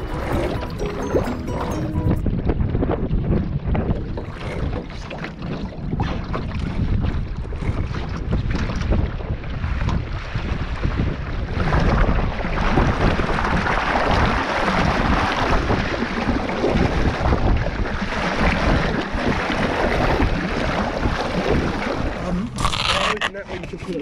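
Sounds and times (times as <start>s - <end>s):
water rushing along boat hull: 0.0s - 24.0s
wind rumbling on microphone: 0.0s - 24.0s.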